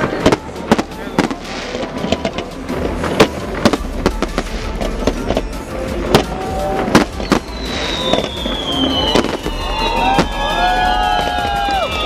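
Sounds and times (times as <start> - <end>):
fireworks bursting: 0.0 - 12.0
steady rumble of fireworks: 0.0 - 12.0.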